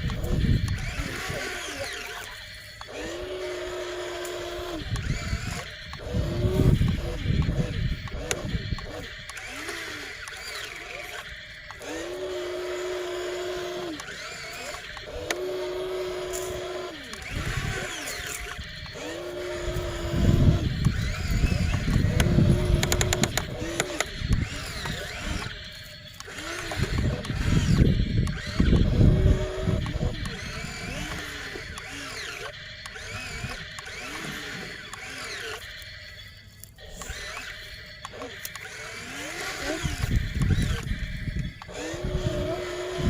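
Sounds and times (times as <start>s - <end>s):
excavator hydraulics whining: 0.0s - 43.0s.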